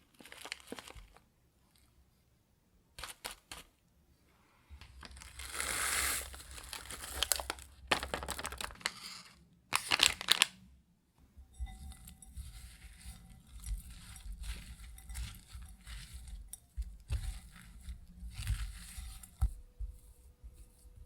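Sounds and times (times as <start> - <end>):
crinkling and rustling: 0.0 - 2.0, 3.0 - 3.8, 4.8 - 10.6, 11.5 - 21.0.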